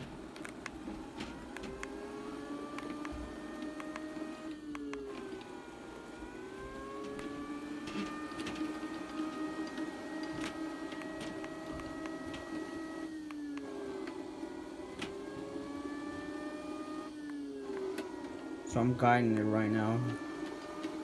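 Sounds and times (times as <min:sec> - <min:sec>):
robot vacuum motor whine: 0:00.0 - 0:21.0.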